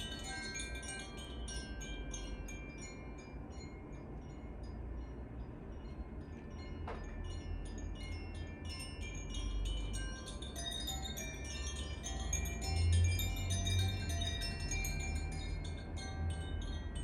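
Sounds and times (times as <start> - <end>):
carillon chimes: 0.0 - 17.0.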